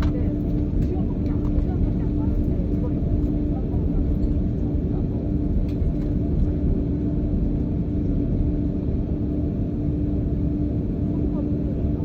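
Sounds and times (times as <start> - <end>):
constant hum: 0.0 - 12.0
jet engine cabin rumble: 0.0 - 12.0.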